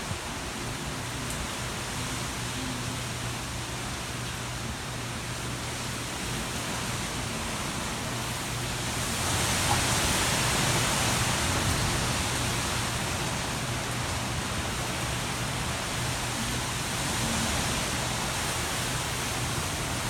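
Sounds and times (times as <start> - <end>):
hurricane wind: 0.0 - 20.0
rain rushing: 0.0 - 20.0.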